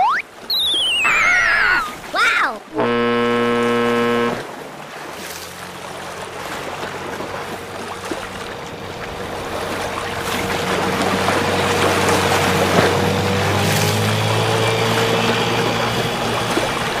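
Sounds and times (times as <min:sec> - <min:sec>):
motorboat engine hum: 0:00.0 - 0:17.0
water wash: 0:00.0 - 0:17.0.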